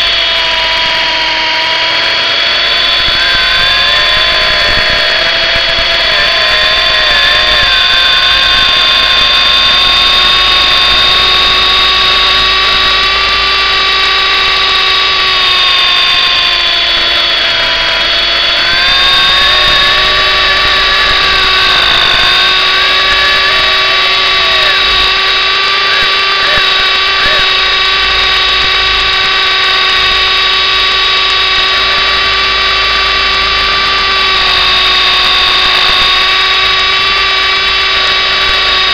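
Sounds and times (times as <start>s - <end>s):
rc helicopter rotor whine: 0.0s - 38.9s
wavering second tone: 0.0s - 38.9s.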